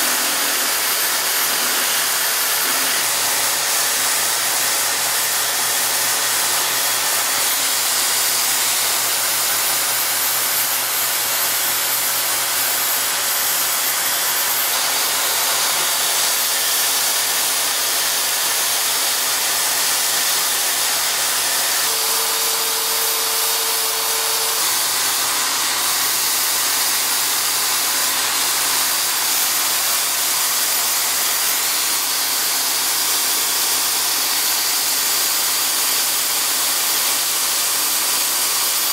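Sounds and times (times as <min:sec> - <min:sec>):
power drill running: 0:00.0 - 0:38.9.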